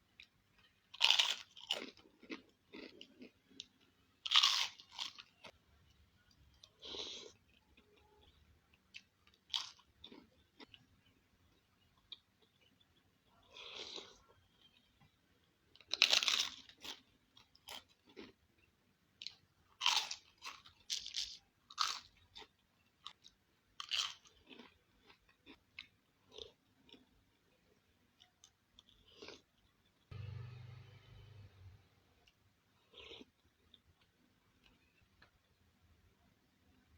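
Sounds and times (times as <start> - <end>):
person crunching and chewing food: 0.1 - 5.6, 6.3 - 30.1, 32.7 - 35.3.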